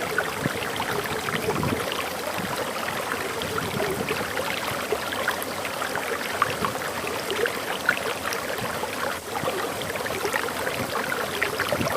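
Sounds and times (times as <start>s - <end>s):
waterfall flowing: 0.0s - 11.9s.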